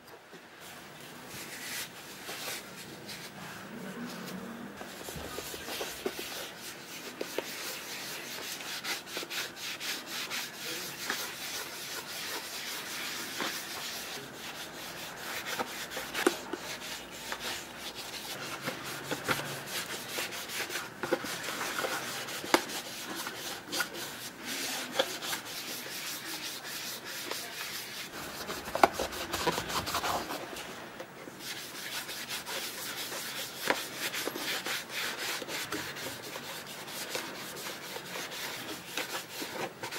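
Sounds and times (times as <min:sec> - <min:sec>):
cloth rubbing on leather shoes: 0:00.6 - 0:03.4, 0:04.1 - 0:30.7, 0:31.3 - 0:39.9.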